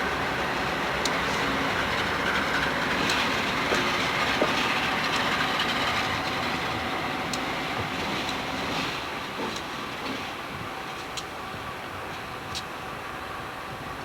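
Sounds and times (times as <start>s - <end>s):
wheels clicking over rail joints: 0.0s - 12.9s
steel wheels rolling on rail: 0.0s - 14.0s.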